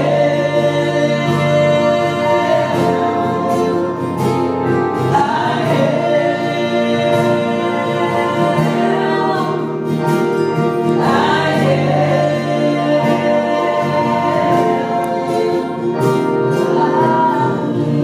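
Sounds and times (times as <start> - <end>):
band playing gospel song: 0.0 - 18.0.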